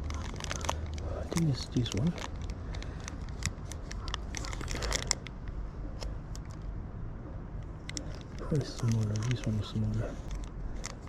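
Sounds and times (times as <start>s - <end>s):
rustling wire and small parts: 0.0s - 6.6s, 7.7s - 11.0s.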